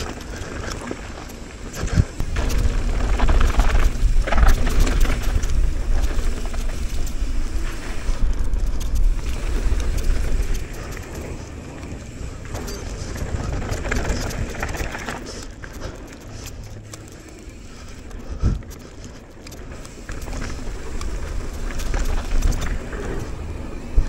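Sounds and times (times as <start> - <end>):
bike rattling over bumps: 0.0 - 24.0.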